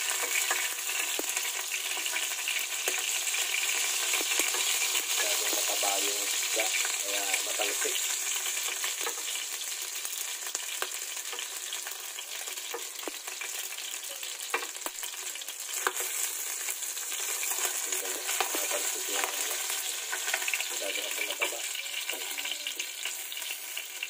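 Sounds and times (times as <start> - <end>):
fish frying in hot oil: 0.0 - 24.0.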